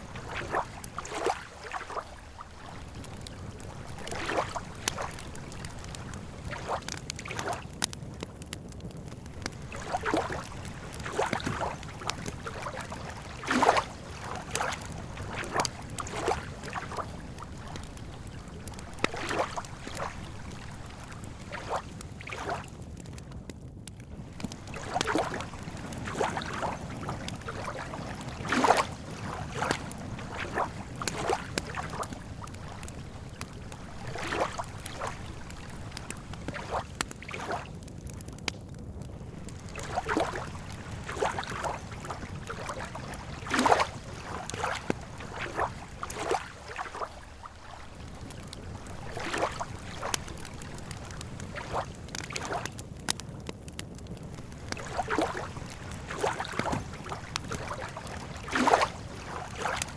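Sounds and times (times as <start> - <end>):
small waves lapping on shore: 0.0 - 7.9, 9.2 - 22.8, 24.1 - 38.3, 39.2 - 59.9
campfire crackling: 0.0 - 59.9.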